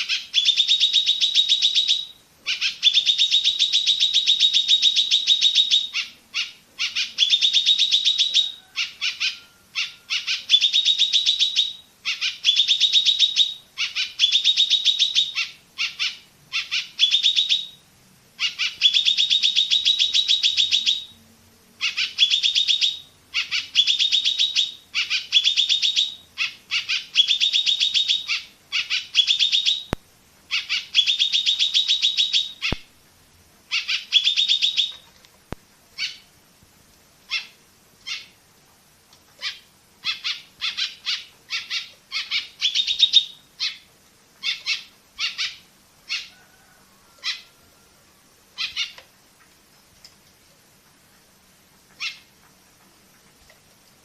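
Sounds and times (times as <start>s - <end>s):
sunbird high chirps: 0.0s - 32.9s, 33.7s - 35.1s, 36.0s - 36.3s, 37.2s - 38.4s, 39.4s - 46.4s, 48.5s - 49.0s, 51.9s - 52.4s.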